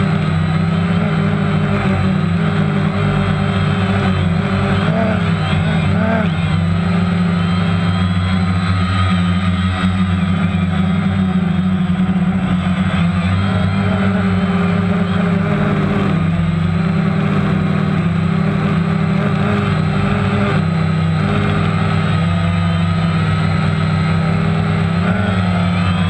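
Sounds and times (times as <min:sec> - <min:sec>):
aircraft propellers droning hum: 0:00.0 - 0:26.0.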